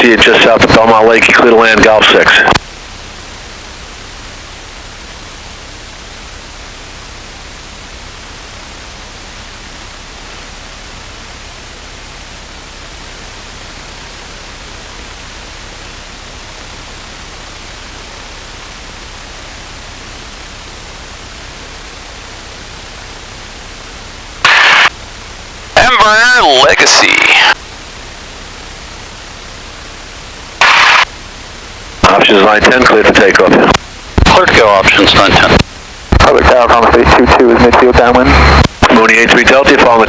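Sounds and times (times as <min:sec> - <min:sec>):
static hiss on headset: 0:00.0 - 0:40.0.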